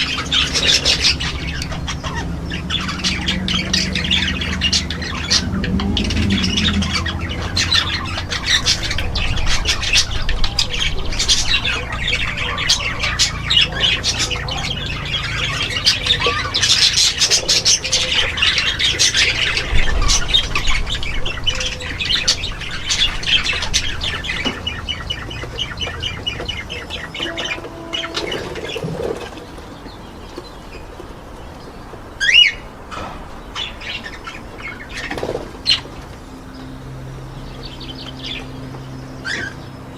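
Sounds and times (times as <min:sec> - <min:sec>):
caged birds chattering and squawking: 0:00.0 - 0:39.9.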